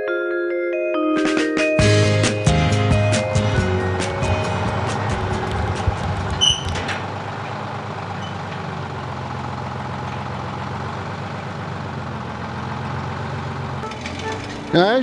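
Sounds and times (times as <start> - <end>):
drilling rig engine humming: 1.8 - 15.0.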